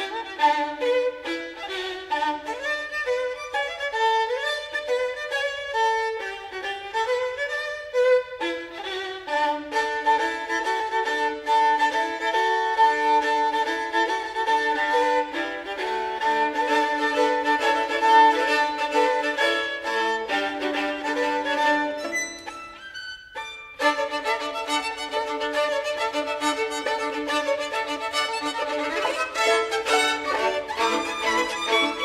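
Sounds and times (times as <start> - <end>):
violin-led instrumental music: 0.0 - 32.0.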